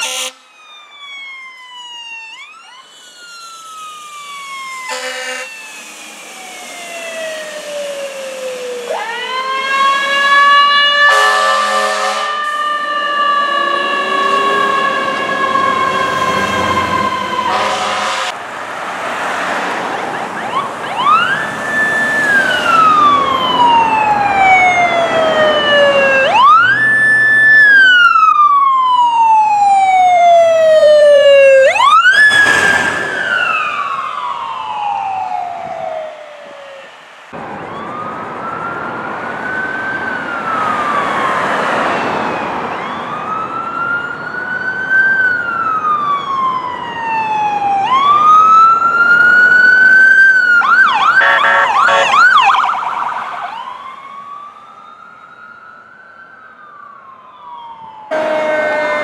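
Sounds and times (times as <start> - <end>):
ambulance siren wailing: 0.0 - 59.0
traffic noise: 0.0 - 59.0.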